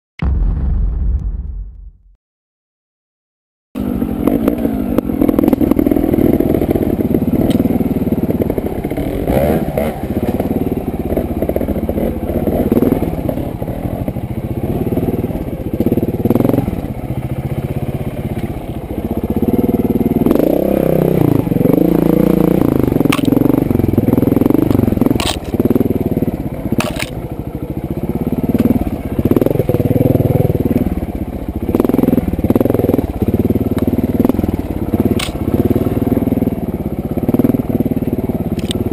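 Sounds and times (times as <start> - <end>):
motorcycle engine revving: 3.8 - 38.9.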